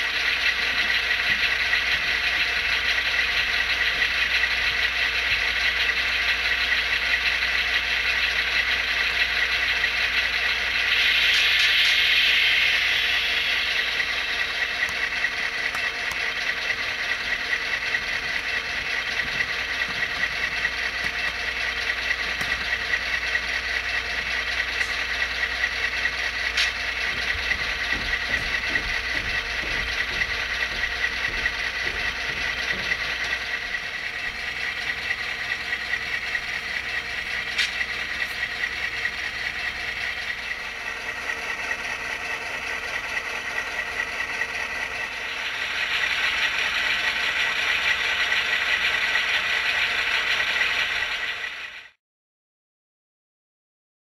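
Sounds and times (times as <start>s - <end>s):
light mechanical rattle: 0.0s - 51.7s
diesel locomotive engine through small speaker: 0.0s - 52.0s.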